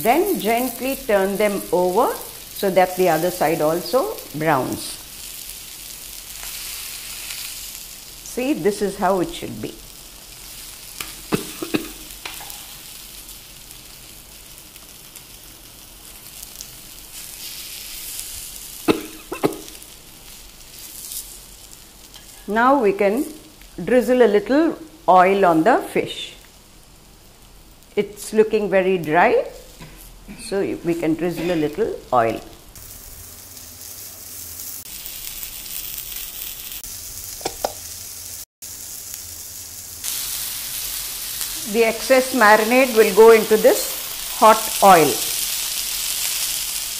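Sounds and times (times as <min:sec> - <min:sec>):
fish sizzling in oil: 0:00.0 - 0:22.5, 0:31.3 - 0:46.9.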